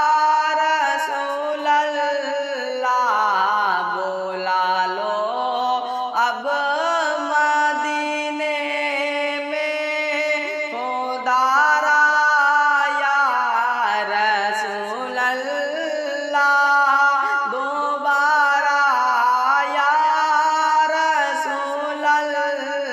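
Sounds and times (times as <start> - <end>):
person chanting a devotional song: 0.0 - 22.9.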